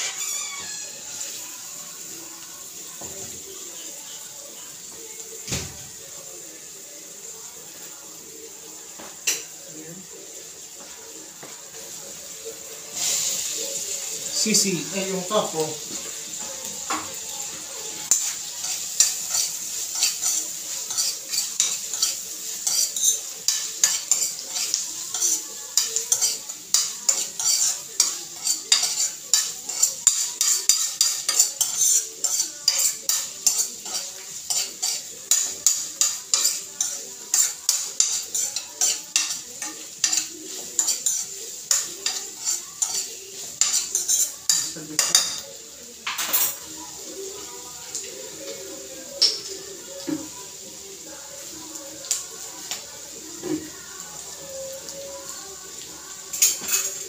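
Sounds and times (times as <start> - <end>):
food sizzling in frying pan: 0.0 - 57.0.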